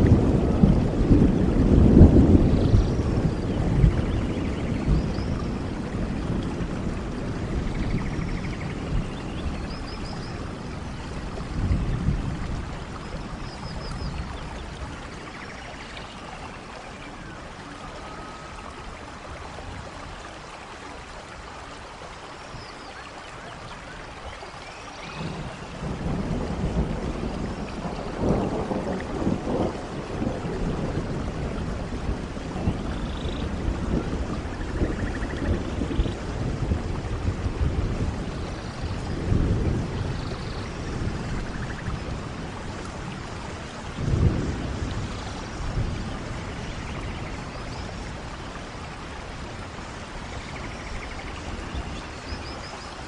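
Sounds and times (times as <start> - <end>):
rolling thunder: 0.0 - 15.6, 25.0 - 52.6
steady rain: 0.0 - 53.0.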